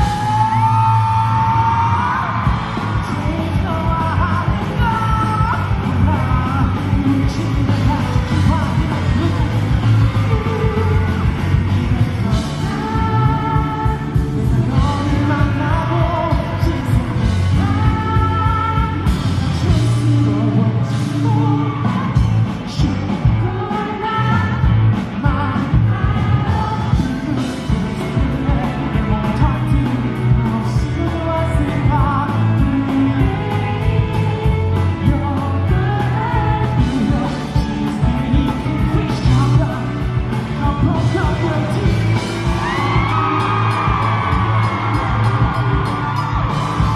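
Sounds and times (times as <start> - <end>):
live pop-rock band: 0.0 - 46.9
man singing lead vocal: 0.0 - 46.9.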